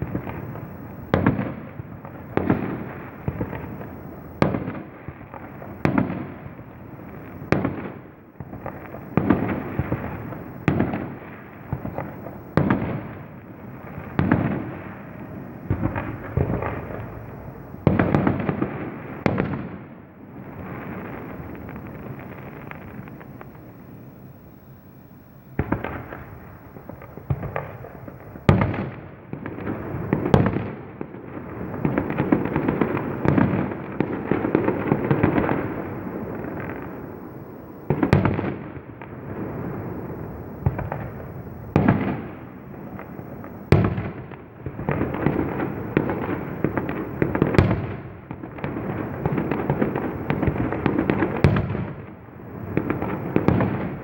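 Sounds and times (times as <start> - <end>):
fireworks crackling and rumbling: 0.0 - 54.0
loud firework bangs: 0.0 - 54.0.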